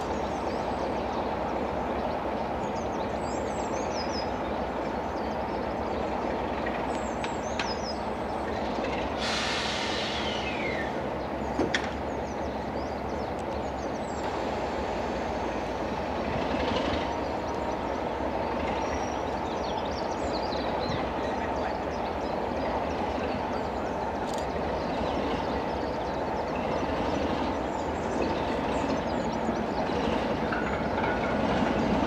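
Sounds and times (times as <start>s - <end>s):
diesel locomotive engine running: 0.0s - 32.0s.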